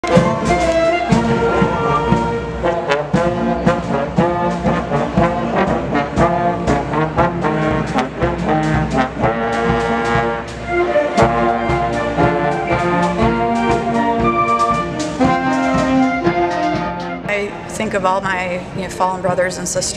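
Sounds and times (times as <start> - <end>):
flutes and woodwinds: 0.0 - 17.4
brass: 0.0 - 17.8
drum strokes: 0.0 - 19.9.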